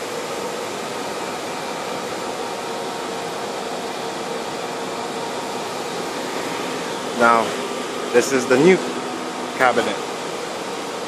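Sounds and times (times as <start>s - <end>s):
rushing fan noise: 0.0s - 11.0s.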